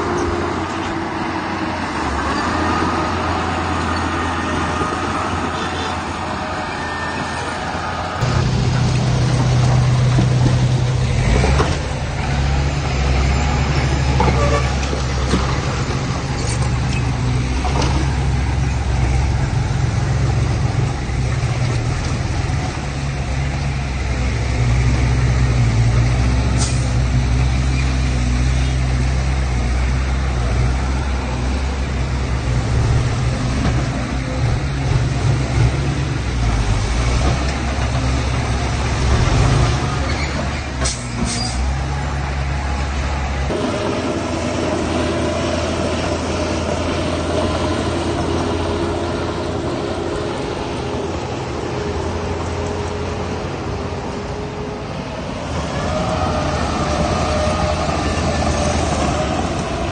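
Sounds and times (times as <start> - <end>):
large diesel engine running: 0.0 - 59.9.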